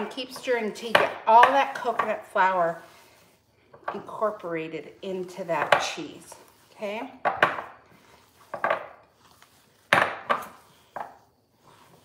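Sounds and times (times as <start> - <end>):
dough being kneaded by hand: 0.0 - 12.0.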